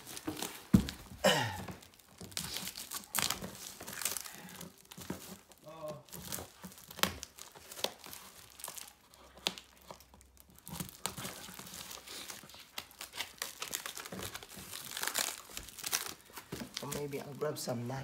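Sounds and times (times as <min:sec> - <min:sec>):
packaging wrap crinkling and tearing: 0:00.0 - 0:18.0.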